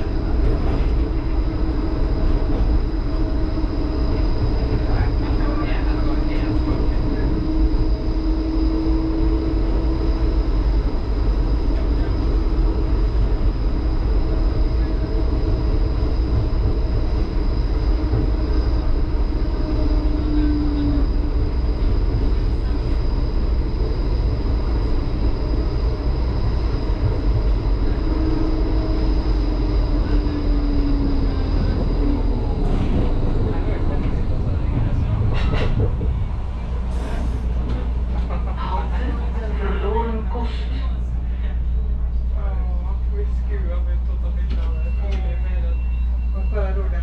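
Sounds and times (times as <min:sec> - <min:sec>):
tram wheels rumbling: 0:00.0 - 0:47.0.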